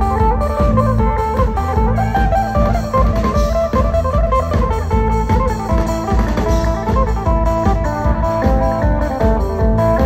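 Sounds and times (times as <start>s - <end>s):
plucked guitar over a beat: 0.0s - 10.0s.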